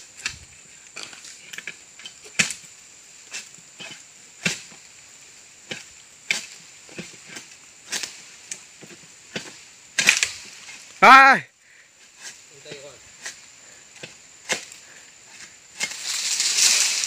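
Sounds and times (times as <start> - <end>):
sickle chopping palm fronds: 1.0 - 4.9, 5.6 - 11.3, 12.0 - 17.0.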